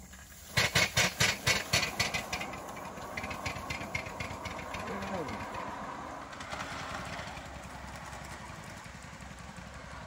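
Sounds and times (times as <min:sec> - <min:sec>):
steam locomotive chuffing: 0:00.1 - 0:10.0.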